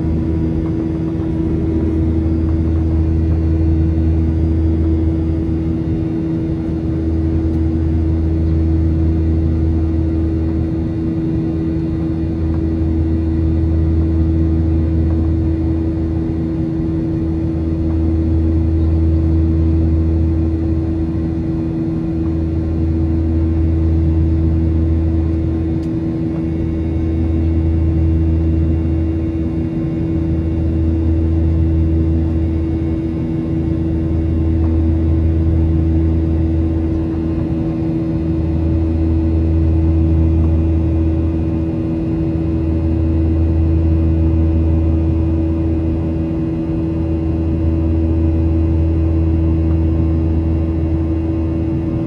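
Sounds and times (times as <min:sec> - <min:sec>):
jet engine cabin drone: 0:00.0 - 0:52.0
steady engine tones: 0:00.0 - 0:52.0.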